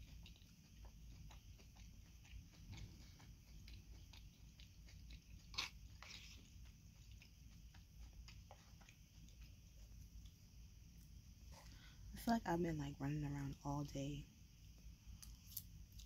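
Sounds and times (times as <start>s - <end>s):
person chewing food: 0.0s - 12.0s, 15.1s - 16.0s.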